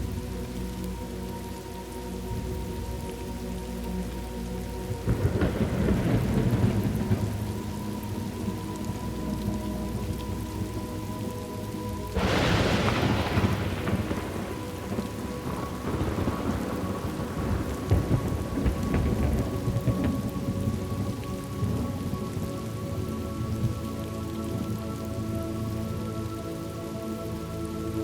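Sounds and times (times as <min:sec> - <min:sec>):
thunder rumbling: 0:00.0 - 0:27.8
steady rain: 0:00.0 - 0:28.0.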